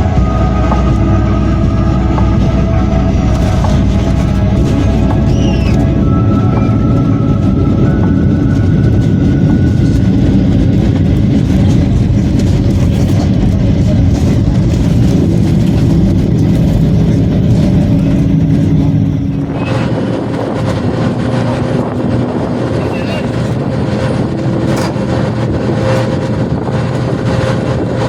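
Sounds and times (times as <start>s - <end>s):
vehicle engine low rumble: 0.0s - 28.0s.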